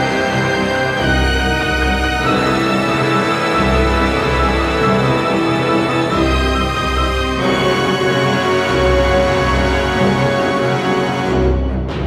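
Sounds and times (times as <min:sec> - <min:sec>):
soundtrack-style music with pulsing bass: 0:00.0 - 0:12.0.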